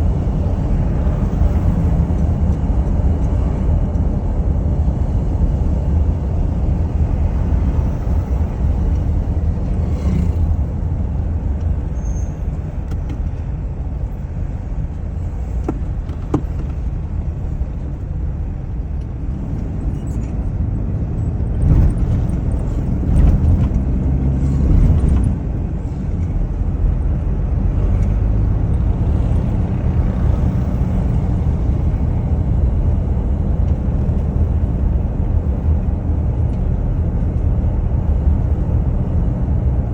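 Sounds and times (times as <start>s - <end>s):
vehicle rumbling: 0.0s - 39.9s.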